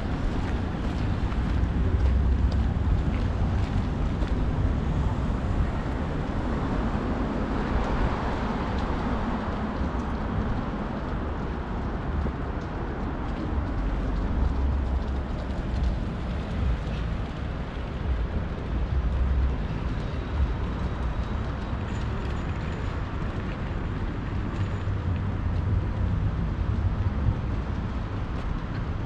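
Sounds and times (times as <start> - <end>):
low rumble of traffic: 0.0 - 29.0.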